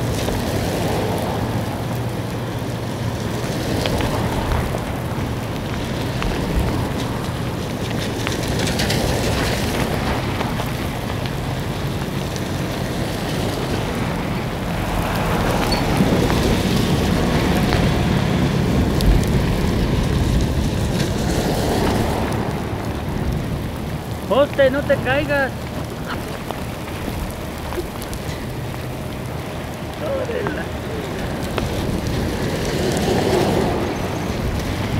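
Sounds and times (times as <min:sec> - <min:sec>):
heavy rain on road: 0:00.0 - 0:34.9
wind gusting on microphone: 0:00.0 - 0:34.9.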